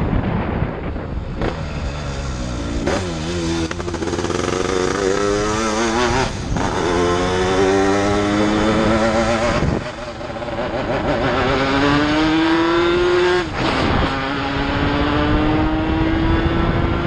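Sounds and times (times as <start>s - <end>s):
wind on microphone: 0.0s - 17.0s
motorcycle engine accelerating: 0.3s - 17.0s.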